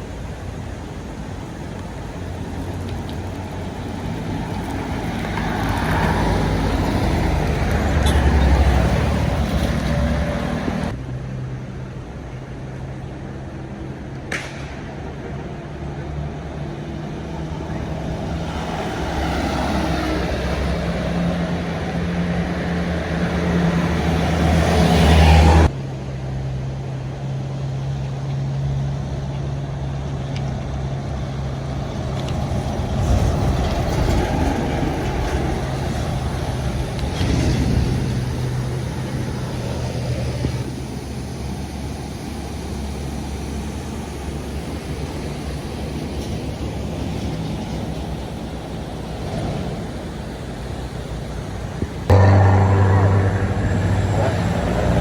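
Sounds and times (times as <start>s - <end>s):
low engine hum: 0.0s - 55.0s
vehicle engines and traffic: 0.0s - 55.0s.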